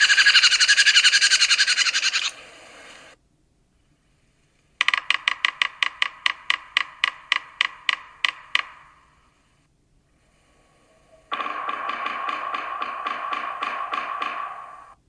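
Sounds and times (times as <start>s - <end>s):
woodpecker drumming on wood: 0.0s - 3.0s, 4.8s - 9.4s, 10.3s - 15.0s.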